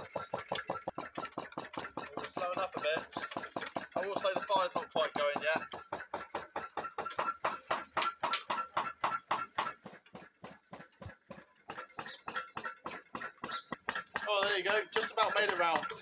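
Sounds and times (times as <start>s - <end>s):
engine rhythmic mechanical knocking: 0.0s - 16.0s.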